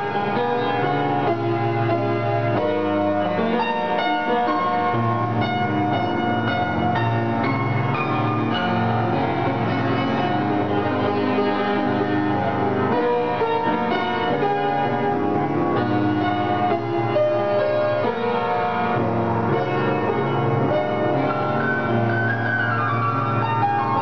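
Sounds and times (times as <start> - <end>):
upright piano playing: 0.0 - 24.0.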